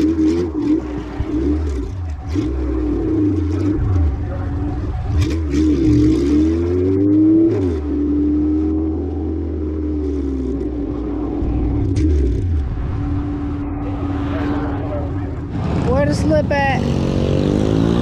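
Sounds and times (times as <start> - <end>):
car engine on light throttle: 0.0 - 18.0.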